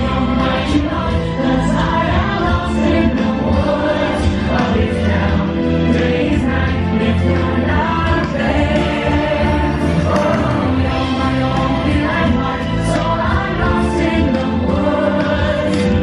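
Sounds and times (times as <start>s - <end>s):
bass backing: 0.0s - 16.0s
choir singing: 0.0s - 16.0s.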